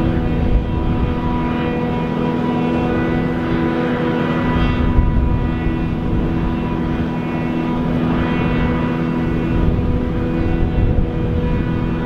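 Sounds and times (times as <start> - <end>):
constant machine whine: 0.0 - 12.0.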